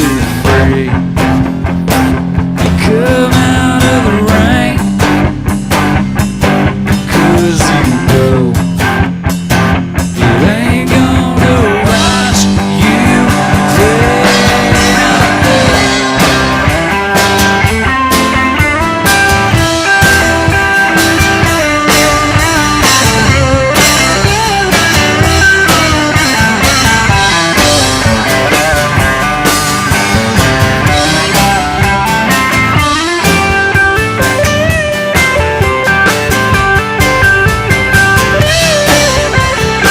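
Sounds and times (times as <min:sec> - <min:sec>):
lead guitar bending notes: 0:00.0 - 0:39.9
steady drum beat: 0:00.0 - 0:39.9.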